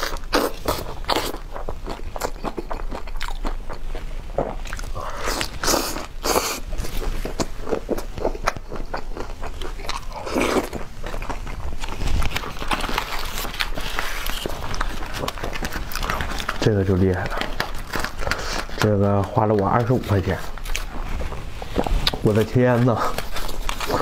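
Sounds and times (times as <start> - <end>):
crunching and chewing crisp food: 0.0 - 24.0.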